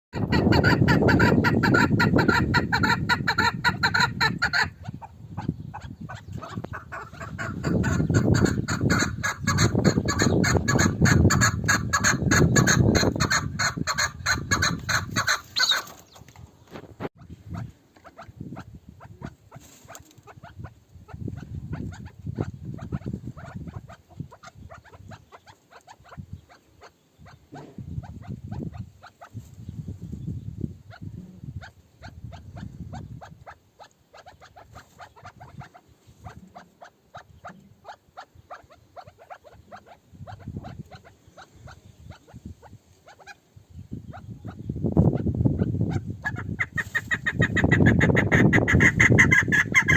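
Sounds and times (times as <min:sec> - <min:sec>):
partridge clucking calls: 0:00.1 - 0:29.4, 0:30.9 - 0:43.4, 0:44.0 - 0:49.9.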